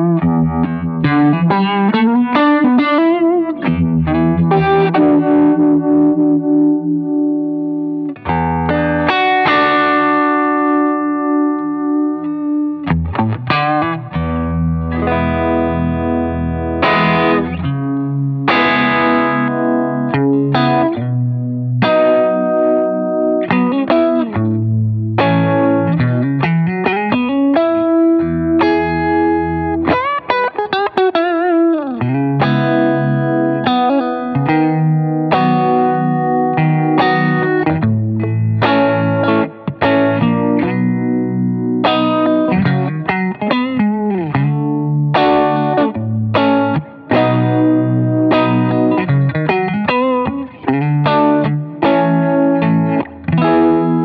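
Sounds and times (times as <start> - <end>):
electric guitar chords and notes: 0.0 - 54.0.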